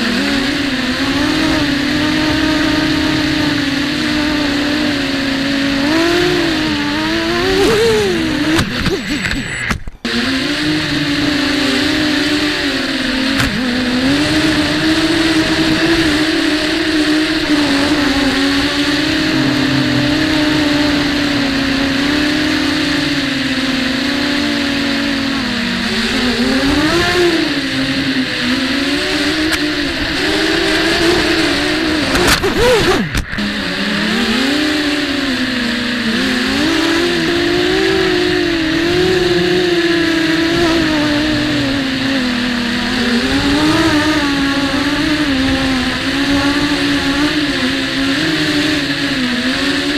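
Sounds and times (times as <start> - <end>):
quadcopter motors droning: 0.0 - 49.9.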